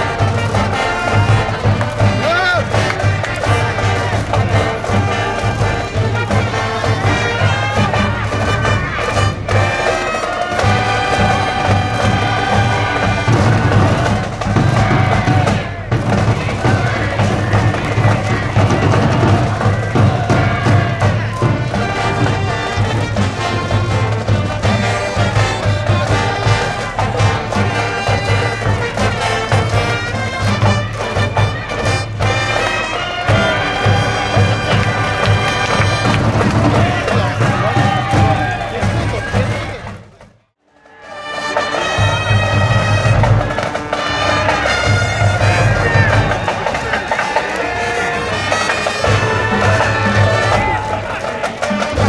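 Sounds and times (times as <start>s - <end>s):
bass drum beat: 0.0s - 40.0s, 44.6s - 52.0s
brass band playing: 0.0s - 52.0s.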